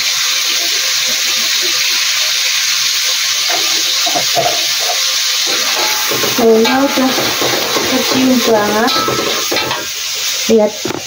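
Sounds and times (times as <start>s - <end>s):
spice paste sizzling in a wok: 0.0s - 11.0s.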